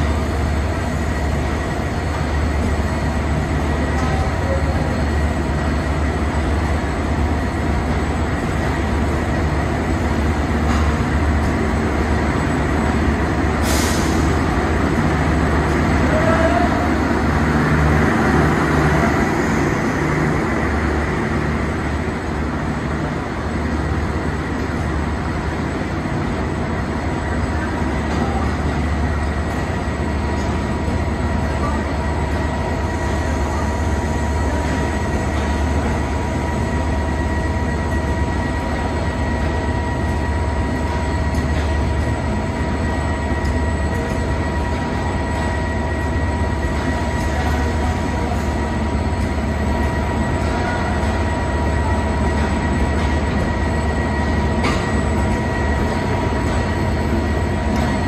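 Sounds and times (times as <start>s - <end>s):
thin steady whine: 0.0s - 58.0s
train wheels rumbling on rail: 0.0s - 58.0s.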